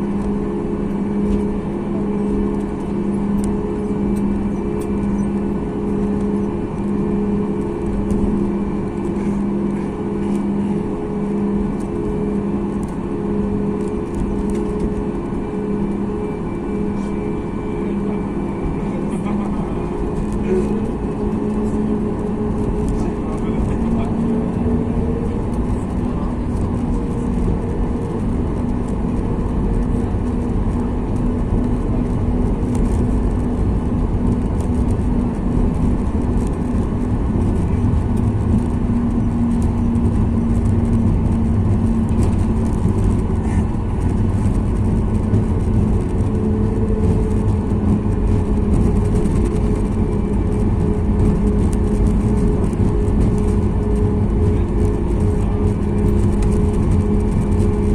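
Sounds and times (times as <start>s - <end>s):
jet engine cabin rumble: 0.0s - 57.9s
low steady hum: 0.0s - 57.9s.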